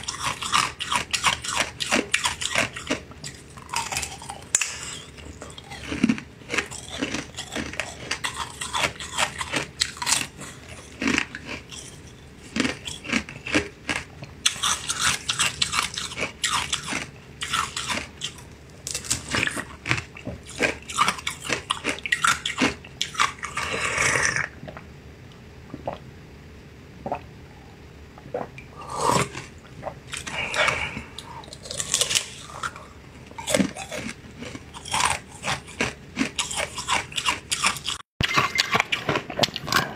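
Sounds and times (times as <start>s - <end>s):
wet biting and chewing: 0.0s - 24.8s, 28.3s - 39.9s.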